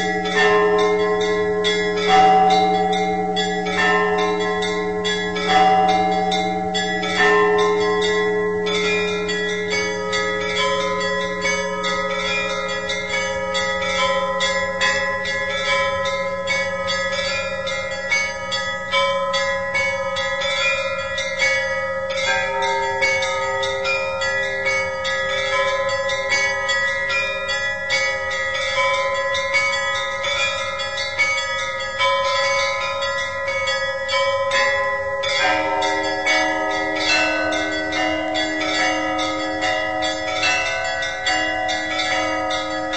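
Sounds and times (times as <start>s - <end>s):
large church bells ringing: 0.0s - 42.9s
low bell striking: 0.0s - 42.9s
small church bells striking: 0.0s - 42.9s.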